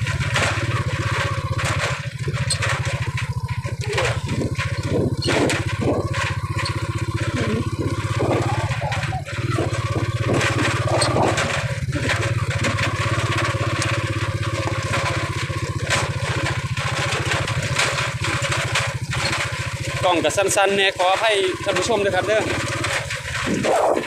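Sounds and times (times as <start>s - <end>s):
rattling and knocking: 0.0s - 24.0s
small engine running: 0.0s - 24.0s.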